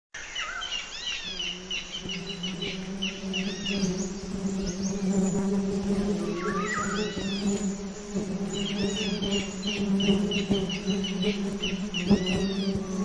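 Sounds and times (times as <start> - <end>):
small birds chirping: 0.2 - 13.0
wasps buzzing: 1.3 - 13.0.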